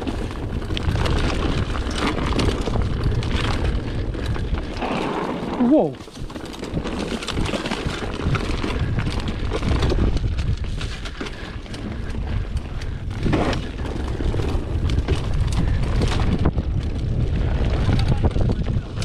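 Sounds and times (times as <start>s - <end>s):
bike rattling: 0.0s - 19.0s
tyres crunching over loose ground: 0.0s - 19.0s
wind buffeting microphone: 0.0s - 19.0s.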